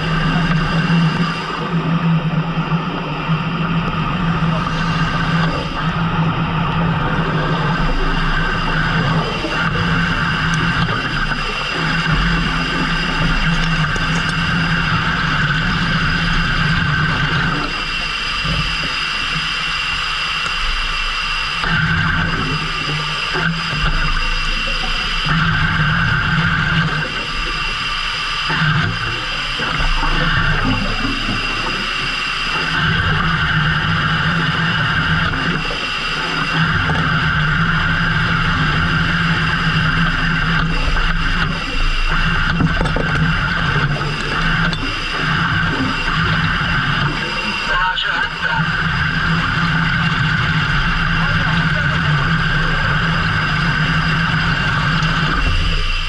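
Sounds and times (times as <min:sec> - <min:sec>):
boat engine running: 0:00.0 - 0:56.0
high whine: 0:00.0 - 0:56.0
water hissing: 0:00.0 - 0:56.0.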